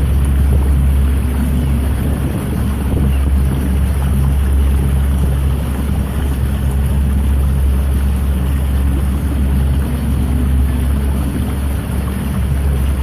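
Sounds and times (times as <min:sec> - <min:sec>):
boat engine drone: 0:00.0 - 0:13.0
wind rumble on microphone: 0:00.0 - 0:13.0.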